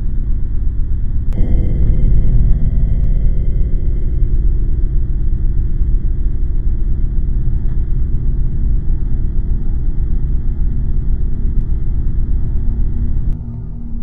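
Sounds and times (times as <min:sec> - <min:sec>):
deep rumbling drone: 0:00.0 - 0:14.0.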